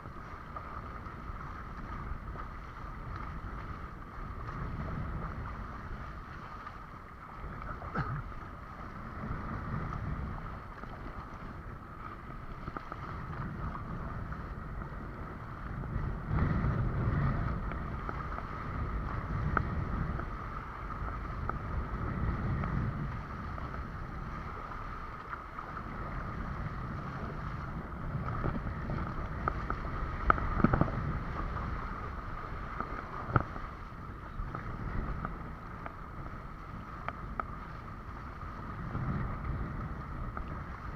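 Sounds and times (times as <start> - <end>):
water rushing and slapping board: 0.0 - 40.9
wind buffeting microphone: 0.0 - 40.9.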